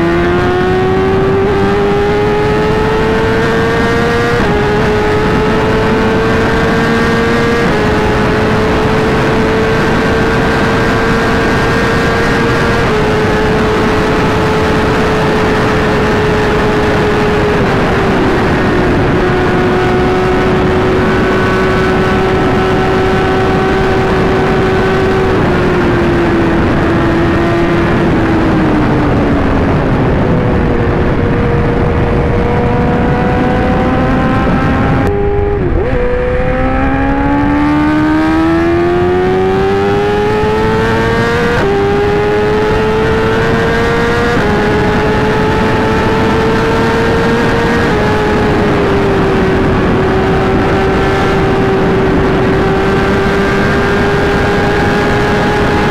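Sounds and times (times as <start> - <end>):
motorcycle engine running: 0.0 - 55.9
wind rush: 0.0 - 55.9.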